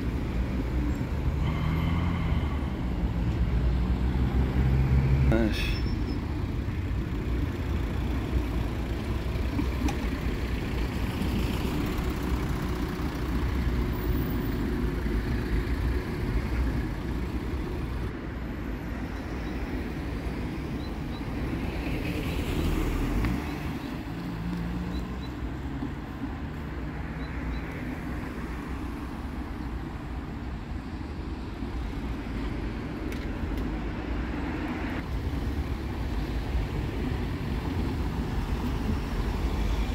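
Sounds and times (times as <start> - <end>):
cars driving past: 0.0 - 39.9.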